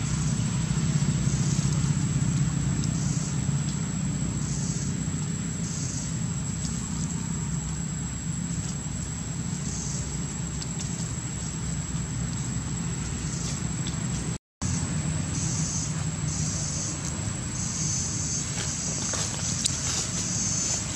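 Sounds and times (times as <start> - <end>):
high-pitched whine: 0.0 - 20.9
low engine hum: 0.0 - 20.9.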